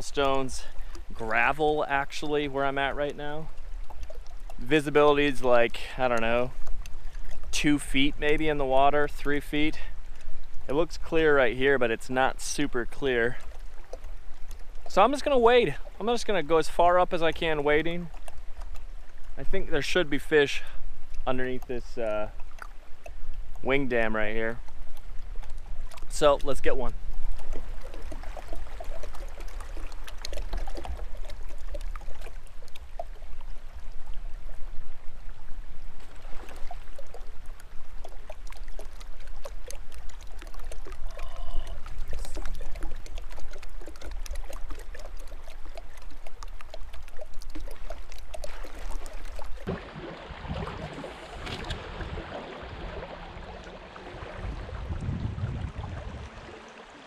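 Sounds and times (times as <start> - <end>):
water splashing around legs: 0.0 - 34.6, 35.9 - 57.0
river water running over gravel: 0.0 - 57.0.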